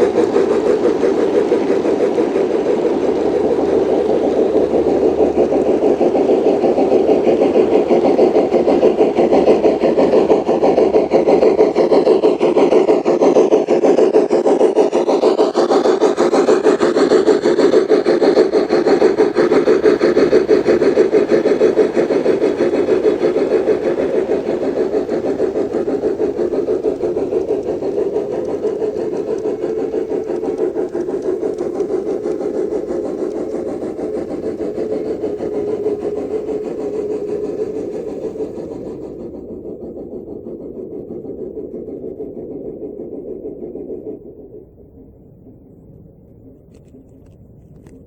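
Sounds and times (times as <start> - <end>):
model train rumbling on track: 0.0 - 48.0.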